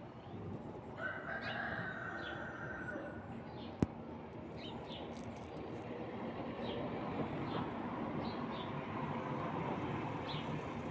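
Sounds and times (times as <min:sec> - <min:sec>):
outdoor background noise: 0:00.0 - 0:10.9.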